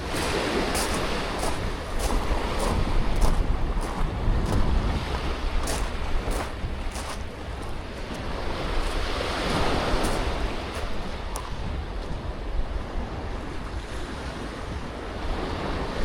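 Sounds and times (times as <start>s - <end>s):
sea waves washing onto beach: 0.0s - 16.0s
wind rumbling on microphone: 0.0s - 16.0s.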